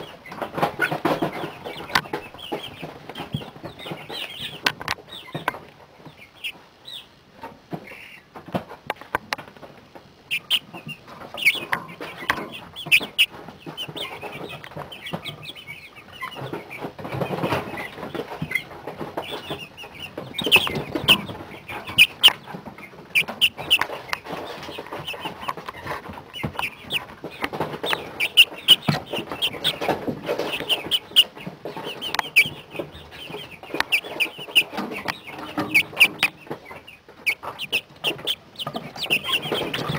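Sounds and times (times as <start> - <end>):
chicks peeping and chirping: 0.0 - 39.9.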